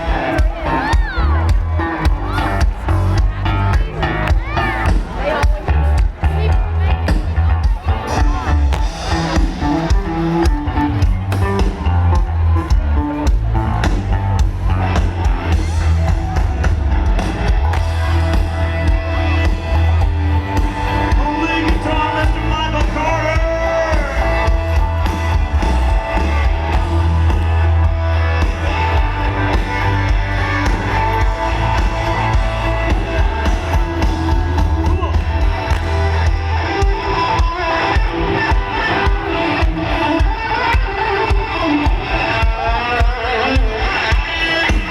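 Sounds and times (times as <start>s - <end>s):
country-rock band playing: 0.0s - 44.9s
pounding bass and drum beat: 0.0s - 44.9s.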